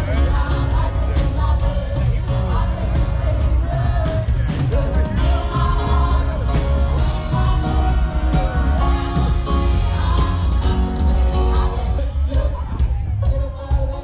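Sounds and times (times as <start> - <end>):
song with singing and heavy bass: 0.0 - 14.0.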